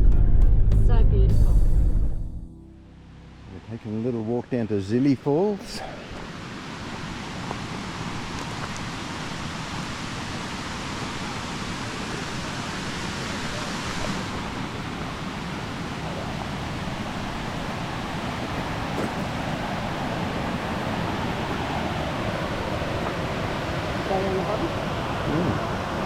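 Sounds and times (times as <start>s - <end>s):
waterfall roaring: 4.2s - 26.0s.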